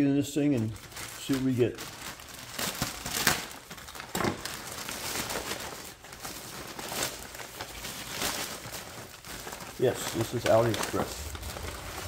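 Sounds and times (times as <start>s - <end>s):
plastic bag crinkling and rustling: 0.0s - 12.0s
knife slitting plastic bag: 0.7s - 12.0s.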